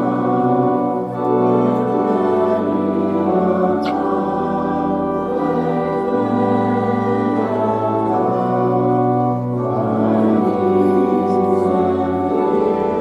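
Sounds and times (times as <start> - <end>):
slow organ music: 0.0 - 13.0.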